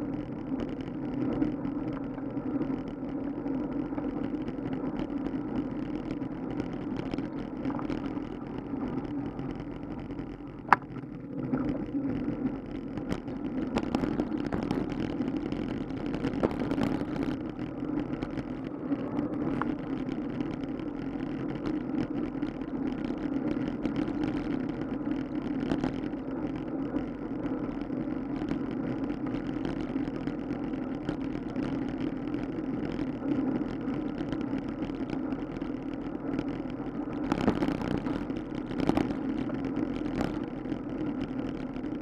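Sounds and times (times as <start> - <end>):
bicycle tyres rolling on asphalt: 0.0 - 42.0
small rattles and clicks: 0.0 - 42.0
wind rumble on microphone: 0.0 - 42.0.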